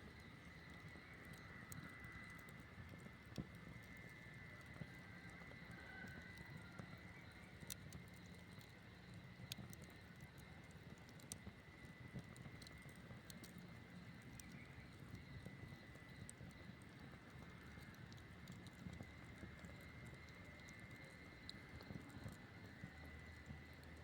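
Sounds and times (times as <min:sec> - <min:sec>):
burning wood crackling and popping: 0:00.0 - 0:24.0
campfire hissing: 0:00.0 - 0:24.0.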